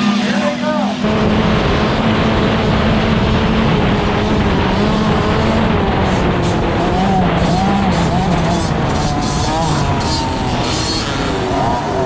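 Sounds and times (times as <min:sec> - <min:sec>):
dirt bike engine revving high: 0:00.0 - 0:12.0
loud rushing noise: 0:00.0 - 0:12.0.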